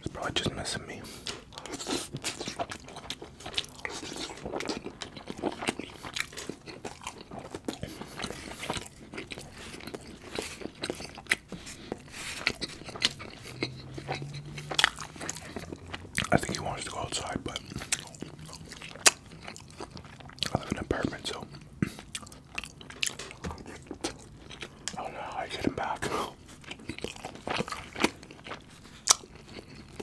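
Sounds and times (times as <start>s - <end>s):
man chewing food: 0.4s - 30.0s.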